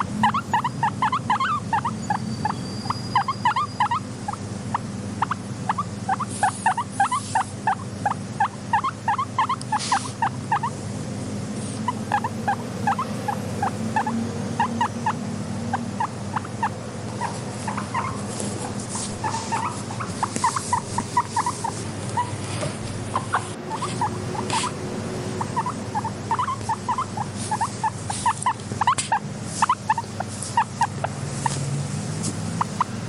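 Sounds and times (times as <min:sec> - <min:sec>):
guinea pigs squeaking: 0:00.0 - 0:10.8, 0:11.6 - 0:33.0.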